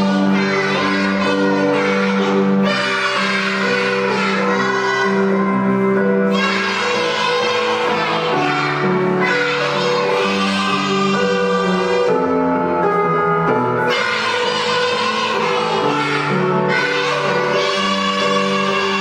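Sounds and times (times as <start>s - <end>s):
children singing: 0.0s - 12.4s, 13.8s - 19.0s
instrumental accompaniment: 0.0s - 19.0s.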